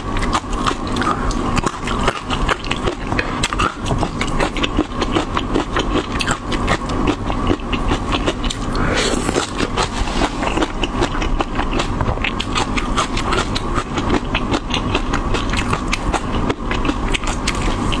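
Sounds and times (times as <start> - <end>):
chewing crunchy leafy greens: 0.0 - 18.0.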